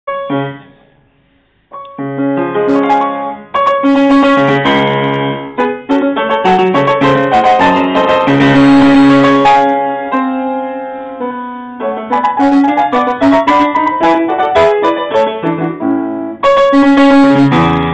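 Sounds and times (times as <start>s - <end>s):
upright piano playing chords: 0.1s - 1.0s, 1.7s - 17.9s.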